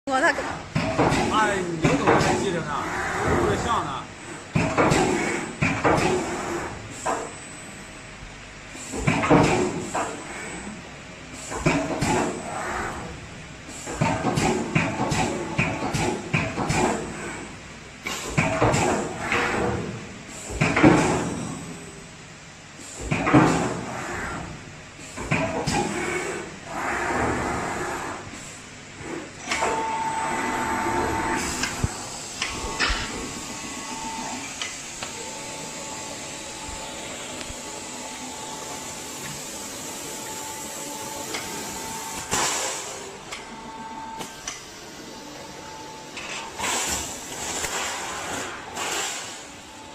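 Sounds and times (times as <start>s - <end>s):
factory machinery running: 0.1s - 49.9s.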